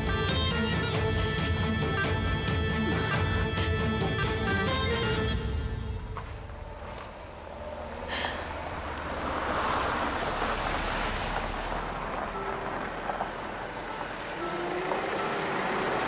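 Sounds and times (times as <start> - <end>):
cars engine and tyre noise: 0.0 - 16.0.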